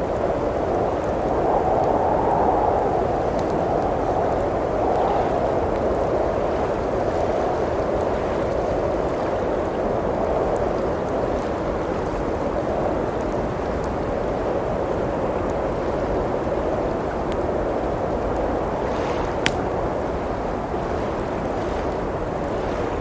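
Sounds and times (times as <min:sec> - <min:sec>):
blizzard wind blowing: 0:00.0 - 0:23.0
wood fire crackling faintly: 0:00.0 - 0:23.0.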